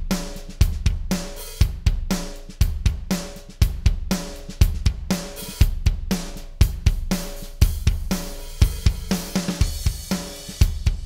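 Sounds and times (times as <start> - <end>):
drum kit groove: 0.0 - 11.0.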